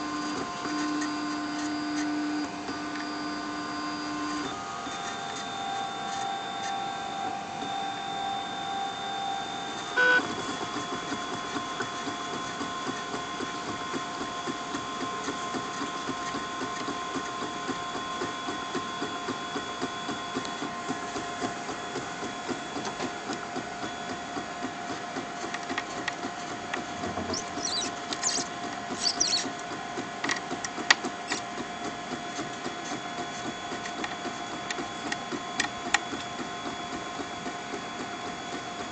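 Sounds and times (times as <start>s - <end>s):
stepper motors whining: 0.0s - 37.5s.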